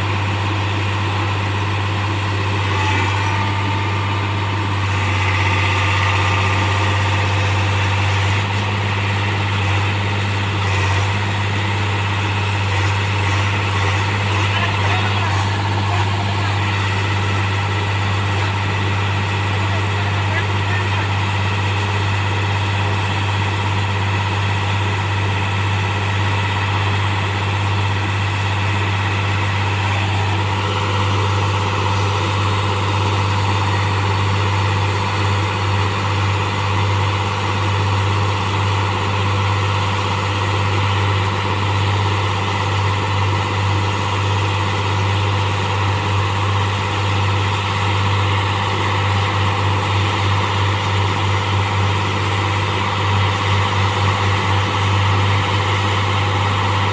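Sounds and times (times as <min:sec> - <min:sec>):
heavy diesel engine humming: 0:00.0 - 0:56.9.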